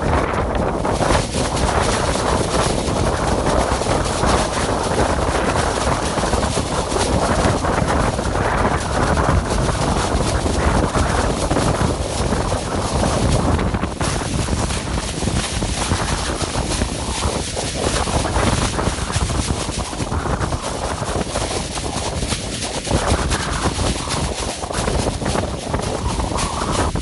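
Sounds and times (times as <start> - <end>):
dense wind-like rushing noise: 0.0 - 27.0.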